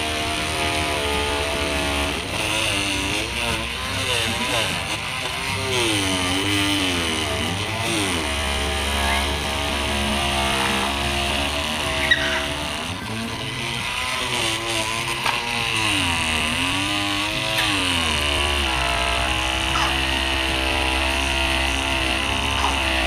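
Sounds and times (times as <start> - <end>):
oscillating multi-tool cutting husk: 0.0 - 23.0.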